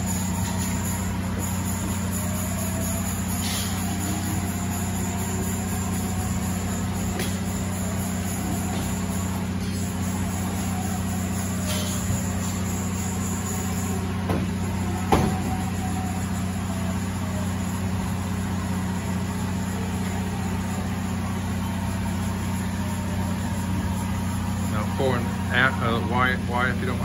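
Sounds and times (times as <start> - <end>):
machining center humming: 0.0 - 27.0.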